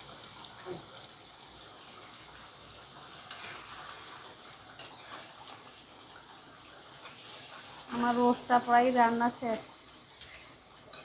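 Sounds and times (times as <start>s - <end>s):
faint steady sizzle in a pan: 0.0s - 11.0s.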